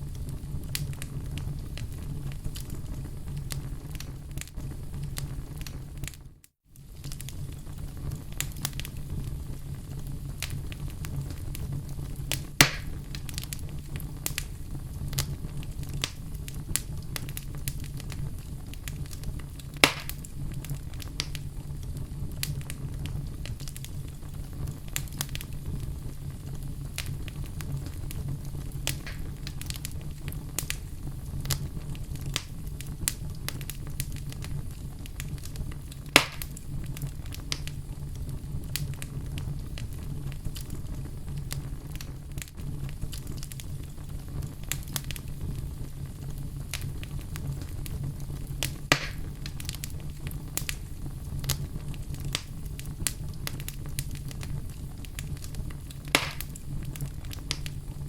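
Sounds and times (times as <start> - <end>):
loud fire pops: 0.0 - 58.0
low rumble of flame: 0.0 - 58.0
wood fire crackling: 0.0 - 58.0.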